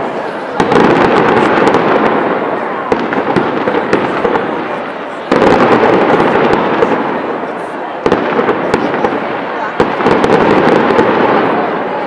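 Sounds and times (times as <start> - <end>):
continuous noisy wash: 0.0 - 12.0
fireworks crackling and popping: 0.0 - 12.0.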